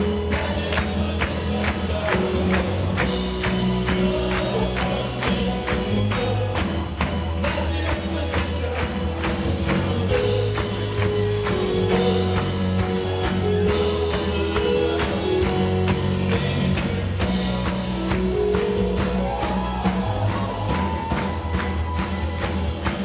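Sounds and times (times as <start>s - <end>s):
drum kit beat: 0.0s - 23.0s
live band playing: 0.0s - 23.0s.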